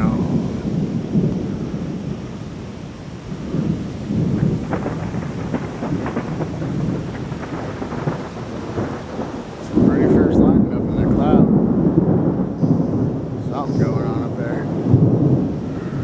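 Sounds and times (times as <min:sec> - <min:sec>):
thunder crackles: 0:00.0 - 0:16.0
thunder rumbling: 0:00.0 - 0:16.0.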